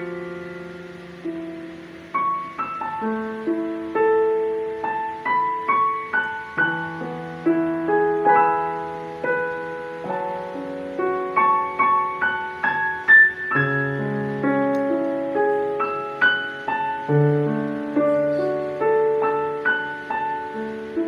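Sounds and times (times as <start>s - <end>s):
digital piano melody: 0.0s - 21.0s.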